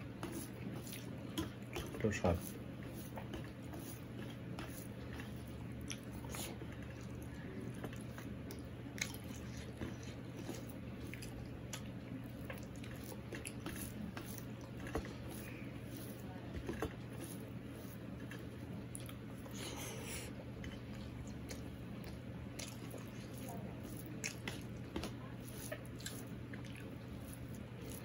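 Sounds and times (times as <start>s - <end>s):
chewing with wet mouth clicks: 0.0s - 28.0s
squishing food by hand on a plate: 0.0s - 28.0s
steady low hum: 0.0s - 28.0s.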